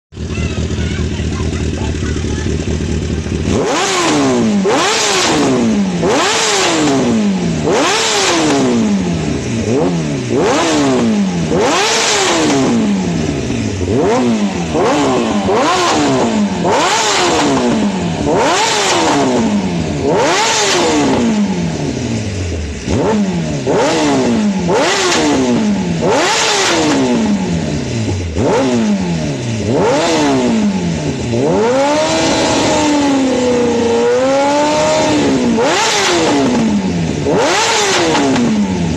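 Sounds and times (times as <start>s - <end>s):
motorcycle engine revving: 0.1s - 38.9s
exhaust backfires crackling: 0.2s - 38.9s.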